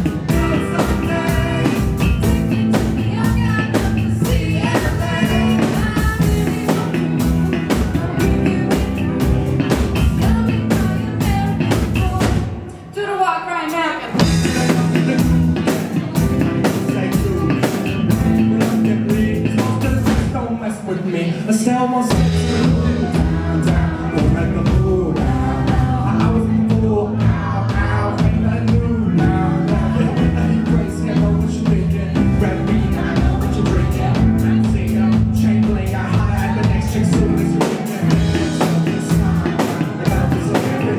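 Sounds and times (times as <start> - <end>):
drum-kit beat: 0.0 - 12.7, 14.0 - 20.6, 22.0 - 40.9
electric guitar: 0.0 - 12.9, 14.0 - 20.4, 22.1 - 40.9
people singing into microphones: 0.0 - 12.9, 13.9 - 40.9
live band playing: 0.0 - 40.9.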